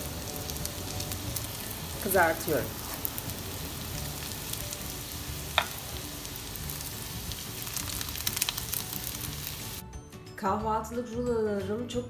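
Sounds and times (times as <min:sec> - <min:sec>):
bread rolls frying in oil: 0:00.0 - 0:09.8.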